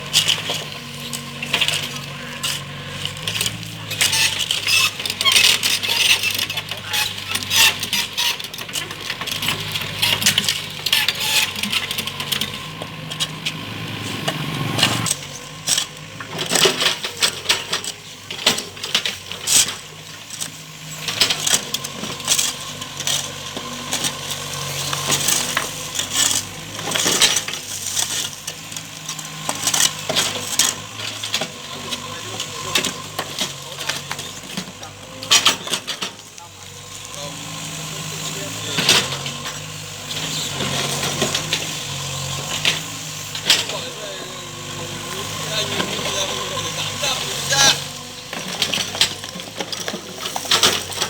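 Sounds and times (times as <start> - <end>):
excavator engine running: 0.0 - 51.0.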